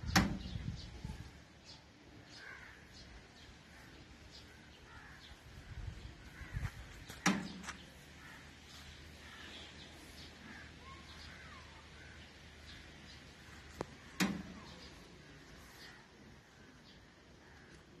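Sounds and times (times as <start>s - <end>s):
faint birds calling: 0.0s - 18.0s.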